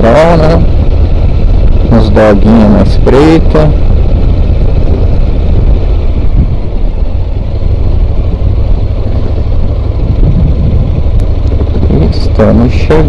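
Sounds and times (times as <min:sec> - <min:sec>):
motorcycle engine rumble: 0:00.0 - 0:13.0.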